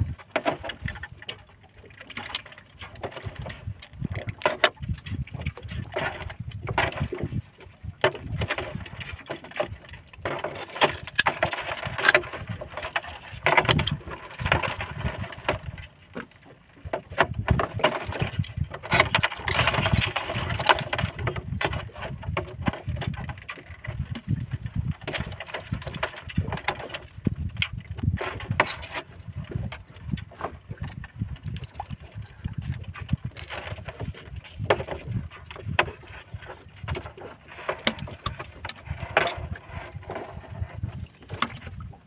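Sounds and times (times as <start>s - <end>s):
knocks and clatter on boat: 0.0s - 42.0s.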